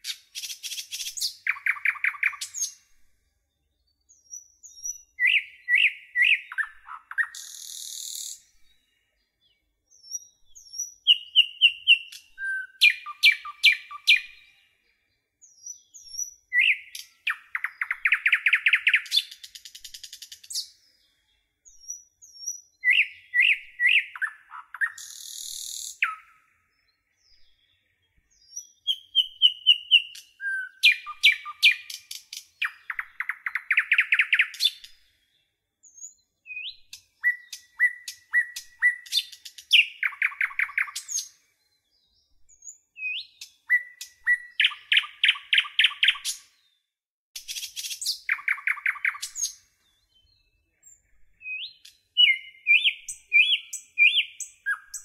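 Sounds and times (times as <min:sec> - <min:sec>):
birdsong with chirps and trills: 0:00.0 - 0:55.0.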